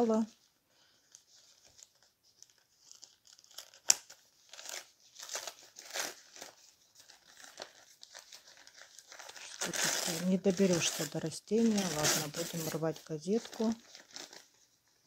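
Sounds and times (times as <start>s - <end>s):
newspaper crinkling and rustling: 0.0s - 15.0s.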